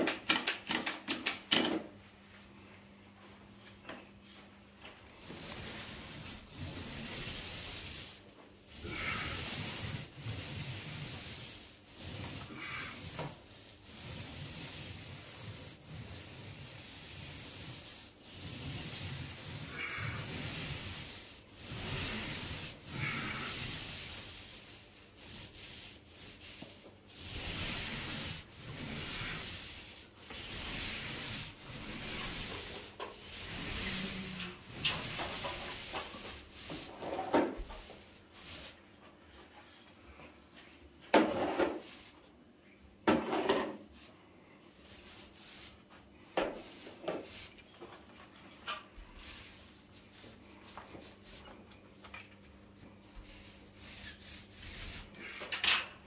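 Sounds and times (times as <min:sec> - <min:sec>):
paint roller swishing on ceiling: 0:00.0 - 0:56.0.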